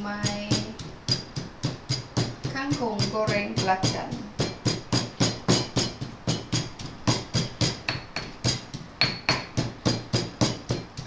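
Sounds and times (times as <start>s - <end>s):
pestle pounding in mortar: 0.0s - 11.0s.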